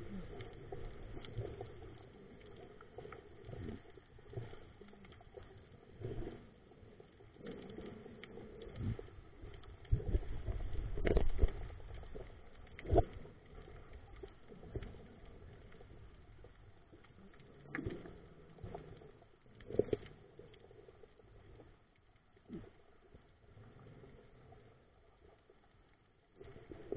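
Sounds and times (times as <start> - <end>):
underwater bubbling rumbles: 0.0 - 26.9.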